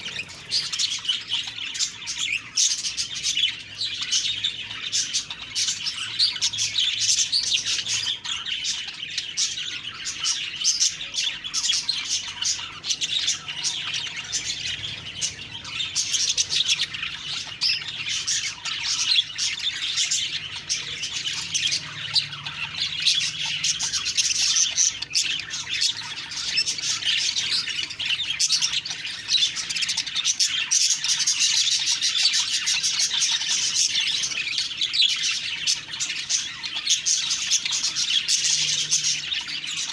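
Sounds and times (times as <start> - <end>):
budgies chattering and warbling: 0.0 - 39.9.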